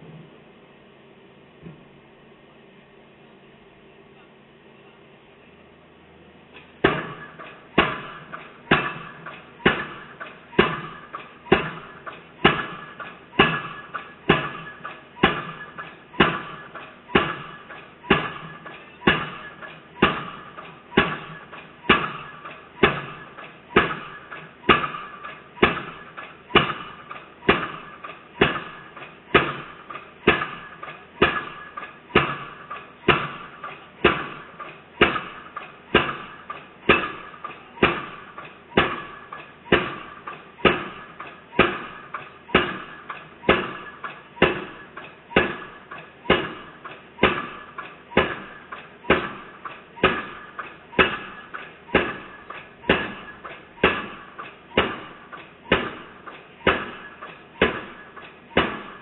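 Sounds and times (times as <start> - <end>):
piling hammer blows ringing: 6.8 - 59.0.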